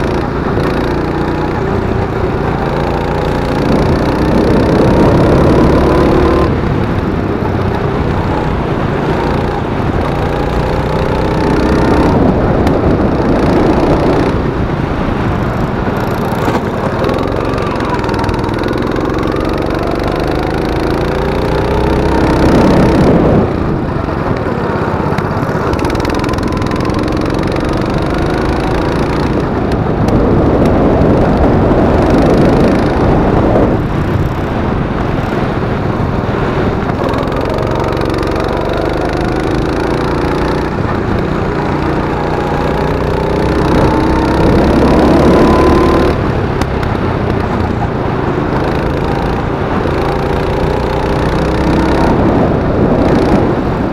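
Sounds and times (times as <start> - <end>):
go-kart engine revving: 0.0 - 53.9.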